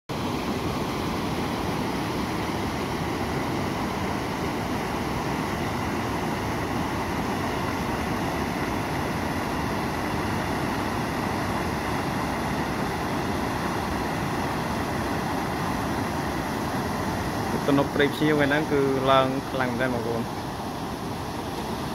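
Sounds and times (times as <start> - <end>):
floodwater rushing over spillway: 0.1 - 21.9.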